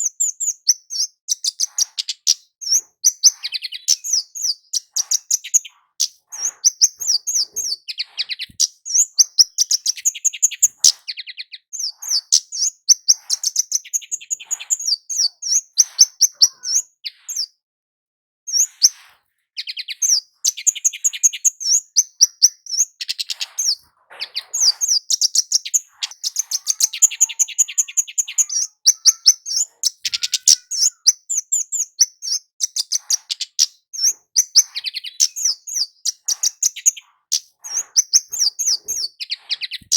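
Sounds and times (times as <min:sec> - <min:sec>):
bird song with twittering trills: 0:00.0 - 0:17.6, 0:18.5 - 0:39.9.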